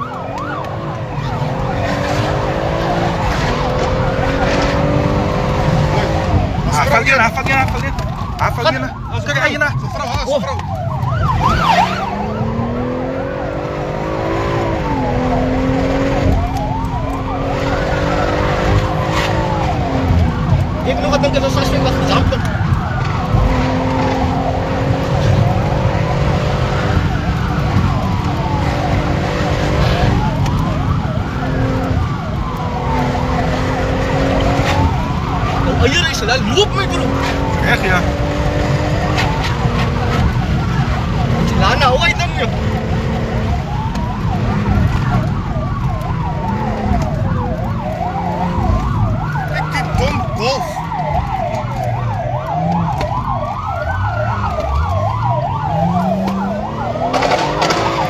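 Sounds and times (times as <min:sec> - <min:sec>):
car engine and road rumble: 0:00.0 - 0:58.0
police siren wailing: 0:00.0 - 0:58.0
police siren yelping: 0:00.0 - 0:58.0.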